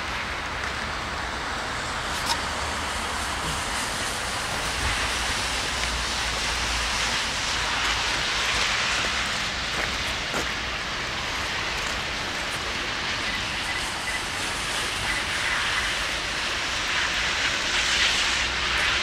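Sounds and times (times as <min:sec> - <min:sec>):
diesel locomotive rumble: 0:00.0 - 0:19.0
steady hiss: 0:00.0 - 0:19.0.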